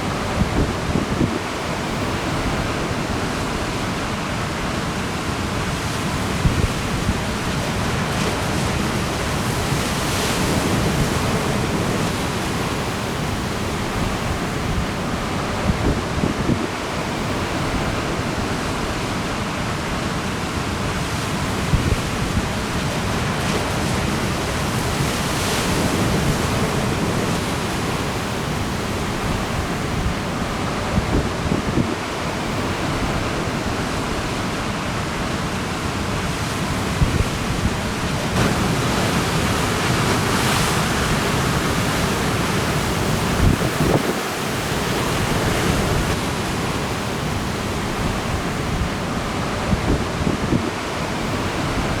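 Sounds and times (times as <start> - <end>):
wind buffeting microphone: 0.0 - 3.3, 5.8 - 18.3, 21.1 - 34.4, 36.4 - 52.0
ocean surf rushing: 0.0 - 52.0.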